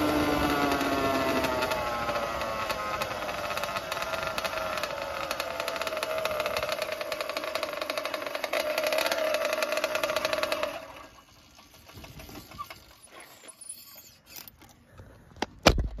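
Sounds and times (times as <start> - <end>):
two-stroke engine running: 0.0 - 13.2.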